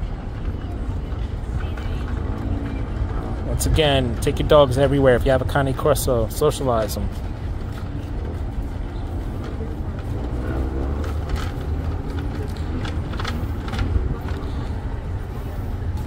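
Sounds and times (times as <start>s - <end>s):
faint voices of passers-by: 0.0s - 16.0s
low rumble of car traffic: 0.0s - 16.0s.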